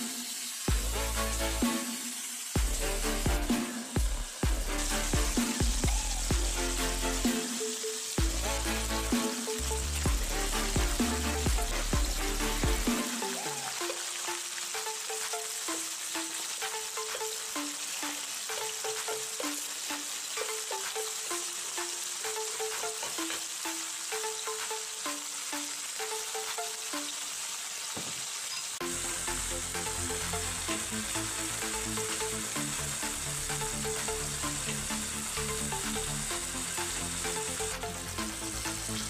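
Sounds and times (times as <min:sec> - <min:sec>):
food sizzling and crackling in pan: 0:00.0 - 0:39.0.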